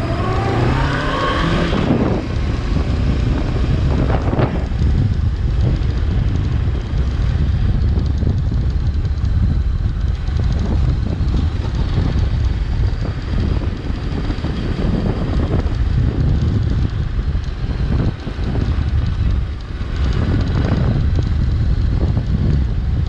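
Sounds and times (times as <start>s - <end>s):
motorcycle engine: 0.0s - 23.0s
wind buffeting on microphone: 0.0s - 23.0s.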